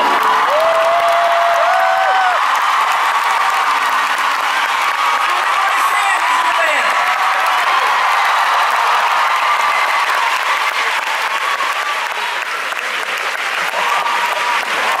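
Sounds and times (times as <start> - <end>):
audience applauding: 0.0 - 15.0
crowd cheering: 0.0 - 15.0.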